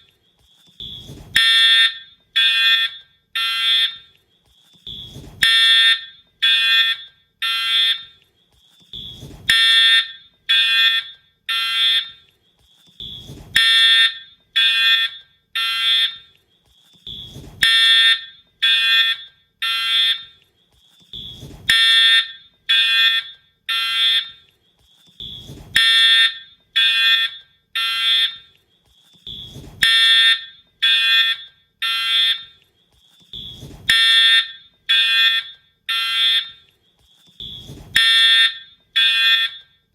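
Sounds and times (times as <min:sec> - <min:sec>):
fire alarm horn blasts: 0:00.8 - 0:04.2, 0:04.8 - 0:08.2, 0:08.9 - 0:12.3, 0:13.0 - 0:16.3, 0:17.0 - 0:20.4, 0:21.1 - 0:24.5, 0:25.2 - 0:28.6, 0:29.2 - 0:32.6, 0:33.3 - 0:36.7, 0:37.4 - 0:39.9.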